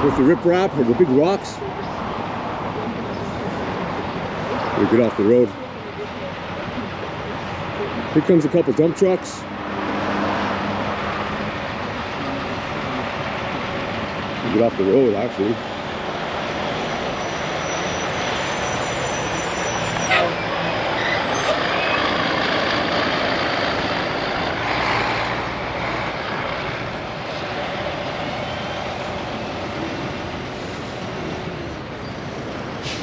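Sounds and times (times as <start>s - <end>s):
heavy trucks passing on highway: 0.0s - 33.0s.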